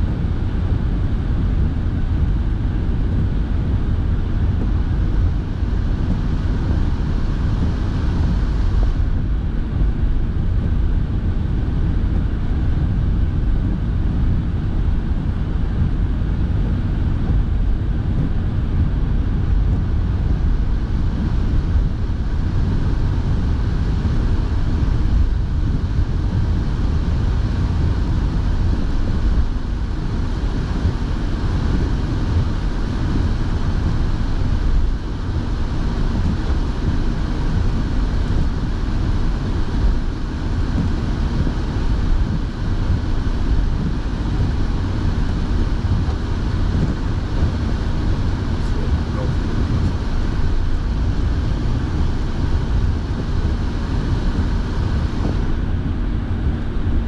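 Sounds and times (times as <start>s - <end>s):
car heater fan blowing: 0.0s - 57.0s
car road and engine rumble: 0.0s - 57.0s.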